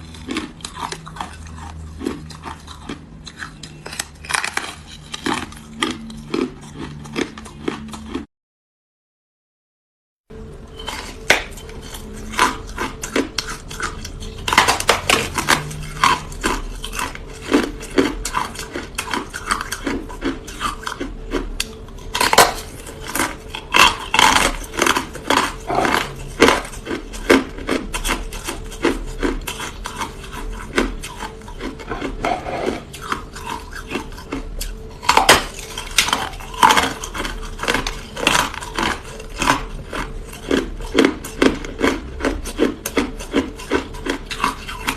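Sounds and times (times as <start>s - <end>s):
ice being bitten and chewed: 0.0s - 8.3s, 10.4s - 44.9s.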